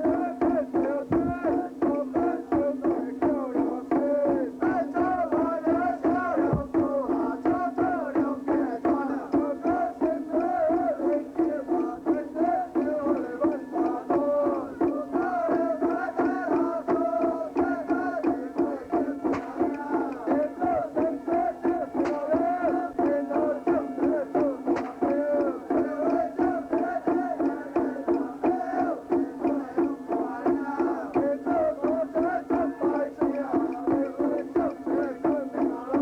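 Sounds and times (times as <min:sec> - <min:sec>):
drums and percussion: 0:00.0 - 0:36.0.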